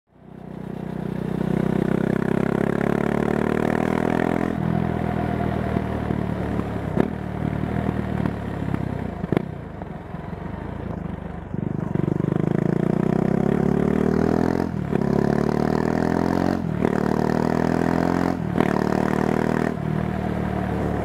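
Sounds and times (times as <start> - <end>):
motorcycle engine accelerating: 0.1 - 21.0.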